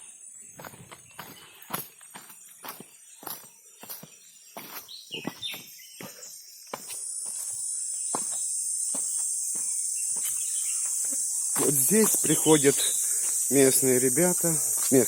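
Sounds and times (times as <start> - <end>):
bird chirp: 0.0 - 15.0
high-pitched insect drone: 0.0 - 15.0
footsteps on rocky path: 0.5 - 12.5, 14.6 - 15.0.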